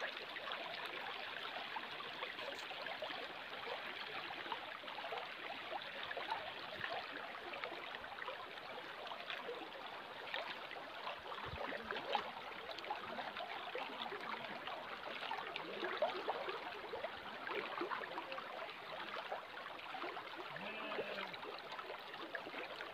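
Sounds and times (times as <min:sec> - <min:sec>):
stream running over rocks: 0:00.0 - 0:22.9.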